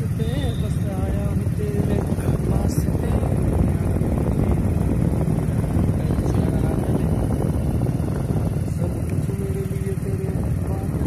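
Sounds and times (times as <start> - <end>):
vehicle running noise: 0.0 - 11.0
wind buffeting microphone: 0.0 - 11.0.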